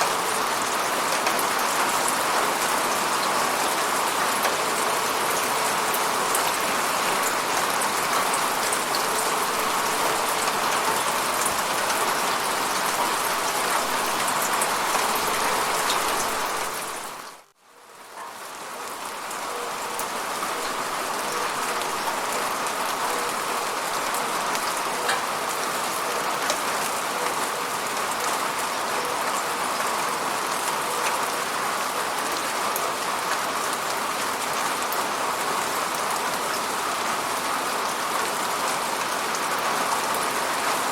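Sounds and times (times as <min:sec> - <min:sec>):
dense rain falling: 0:00.0 - 0:40.9.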